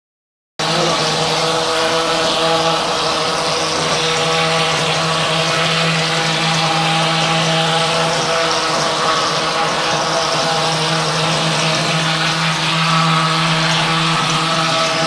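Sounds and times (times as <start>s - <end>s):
plaster machine motor hum: 0.6s - 15.0s.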